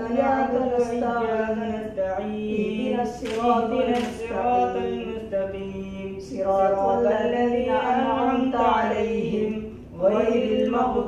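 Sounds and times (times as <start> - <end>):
man chanting a prayer: 0.0 - 11.0.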